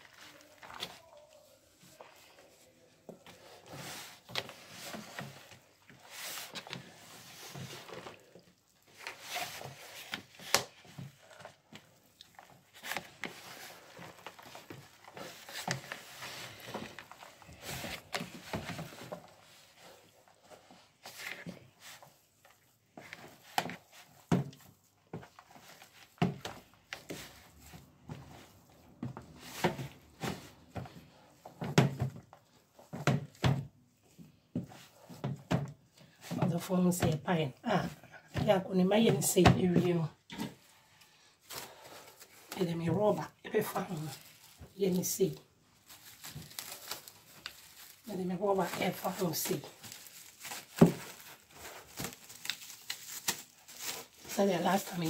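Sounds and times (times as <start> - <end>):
rustling and scraping dough: 0.0 - 55.0.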